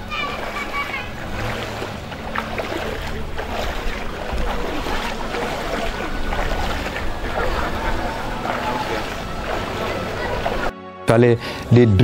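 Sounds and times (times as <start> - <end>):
feet splashing through water: 0.0 - 10.7
wind buffeting microphone: 0.0 - 10.7.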